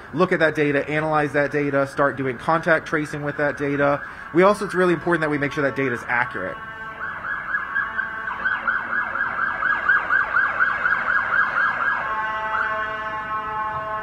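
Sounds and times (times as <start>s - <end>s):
emergency vehicle siren: 0.0s - 14.0s.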